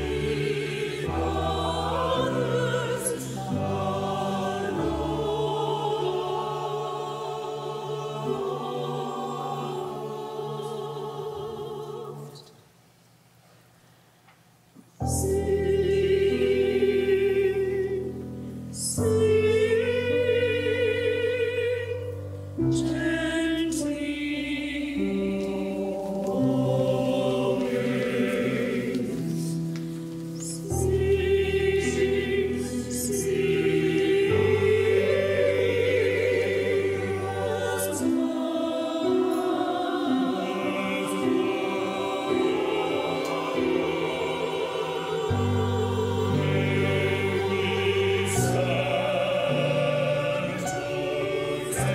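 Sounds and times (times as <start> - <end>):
mixed choir singing: 0.0 - 12.6, 15.0 - 51.9.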